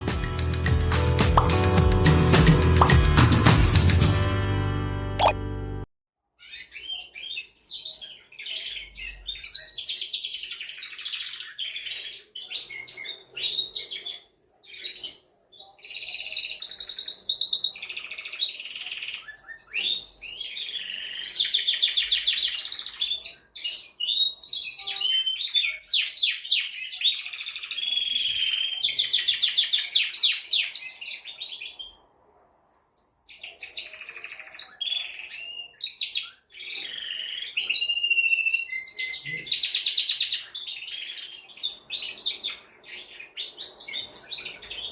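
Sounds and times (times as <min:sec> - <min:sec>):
canary singing: 0:06.4 - 0:32.2, 0:32.8 - 0:44.9.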